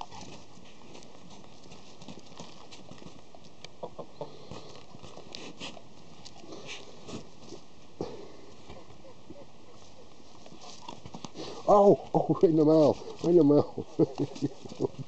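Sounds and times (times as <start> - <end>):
animals scuffling on dirt: 0.0 - 15.0.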